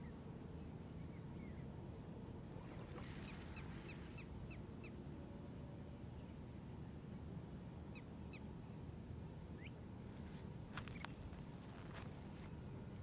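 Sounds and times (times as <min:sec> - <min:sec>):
low steady outdoor rumble: 0:00.0 - 0:13.0.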